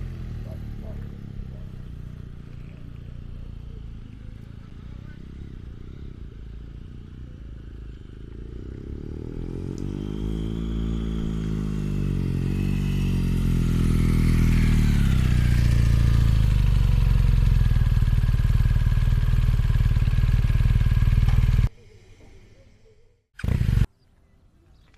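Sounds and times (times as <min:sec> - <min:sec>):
motorcycle engine running: 0:00.0 - 0:21.7, 0:23.4 - 0:23.9.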